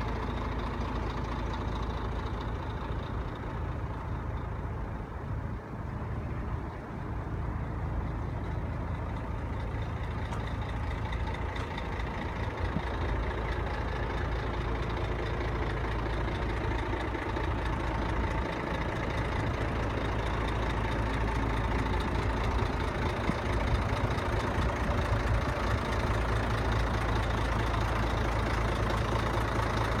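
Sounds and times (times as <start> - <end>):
truck diesel engine running: 0.0 - 30.0.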